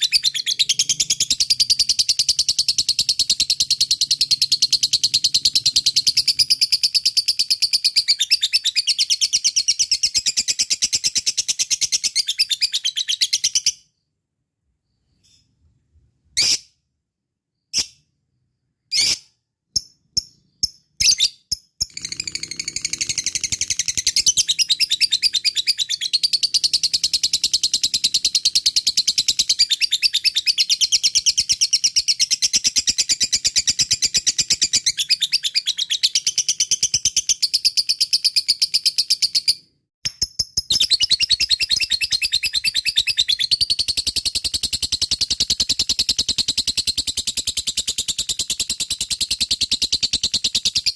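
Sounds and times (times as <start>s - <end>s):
lovebird chirping and trilling: 0.0s - 14.0s, 16.3s - 16.8s, 18.8s - 50.9s.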